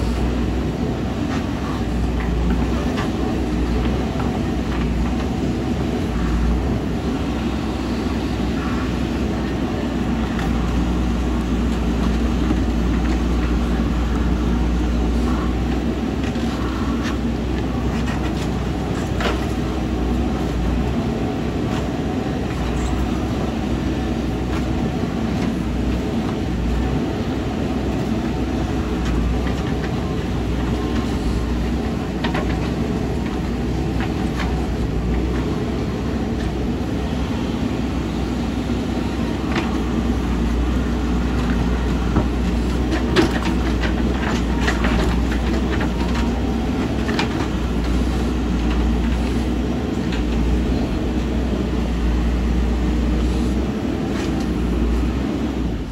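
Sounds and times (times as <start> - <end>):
diesel engine of earthmoving machine: 0.0 - 55.9.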